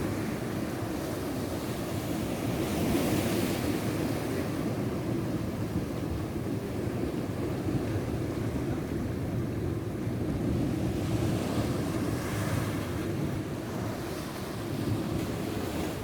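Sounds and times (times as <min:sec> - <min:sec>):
ocean waves washing onto beach: 0:00.0 - 0:16.0
wind rumbling on microphone: 0:00.0 - 0:16.0.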